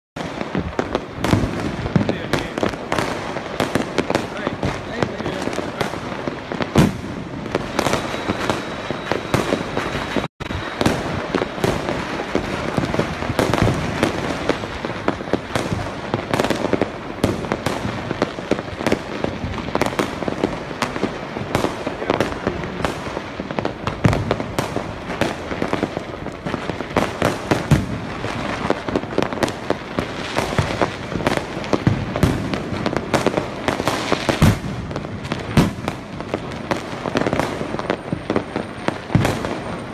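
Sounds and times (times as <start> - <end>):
fireworks bangs and crackling: 0.2 - 39.9.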